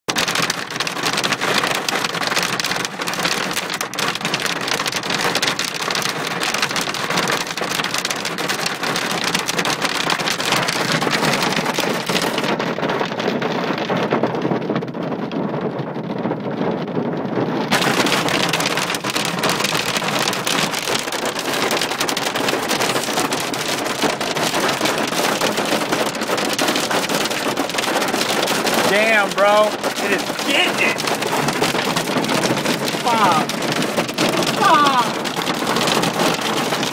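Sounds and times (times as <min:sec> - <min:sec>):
hail clattering on surfaces: 0:00.1 - 0:36.9.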